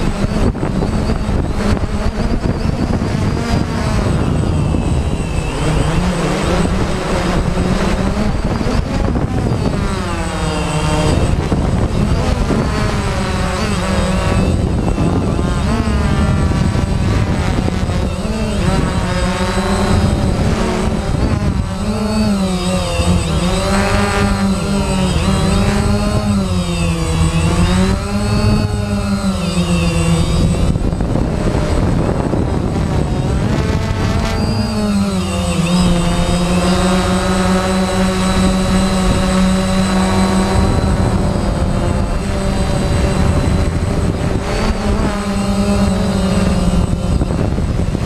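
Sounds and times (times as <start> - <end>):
drone motors buzzing: 0.0 - 48.0.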